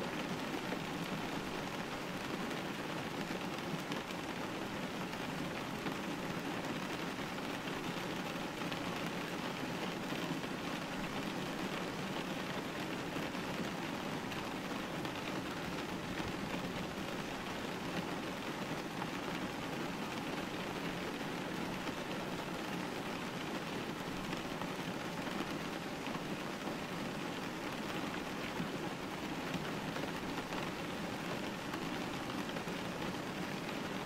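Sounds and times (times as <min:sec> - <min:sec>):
rain hissing on window: 0:00.0 - 0:34.0.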